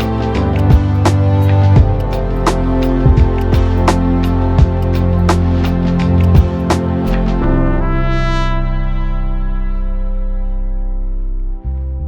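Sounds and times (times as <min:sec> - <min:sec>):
sustained brass-like chord: 0:00.0 - 0:11.7.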